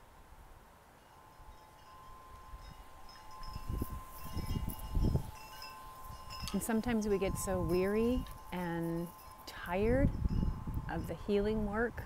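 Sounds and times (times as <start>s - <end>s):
wind chimes ringing: 1.0s - 11.4s
wind buffeting microphone: 1.4s - 12.0s.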